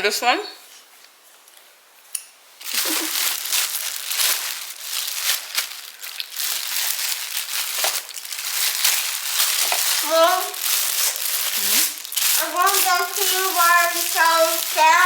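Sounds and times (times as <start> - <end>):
plastic packaging crinkling: 2.6 - 15.0.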